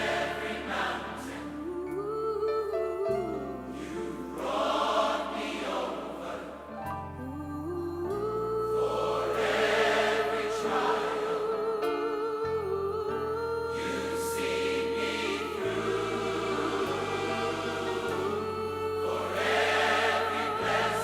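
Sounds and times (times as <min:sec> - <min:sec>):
choir singing gospel song: 0:00.0 - 0:21.0.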